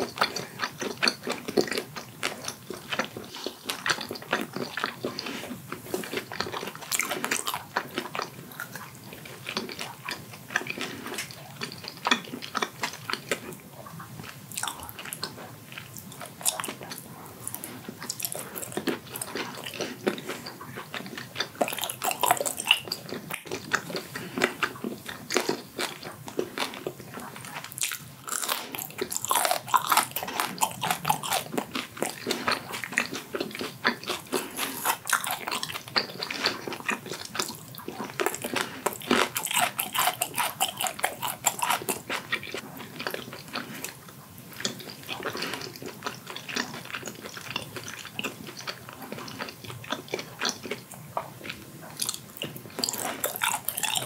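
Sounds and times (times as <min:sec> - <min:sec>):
person chewing whelk meat: 0:00.0 - 0:54.0.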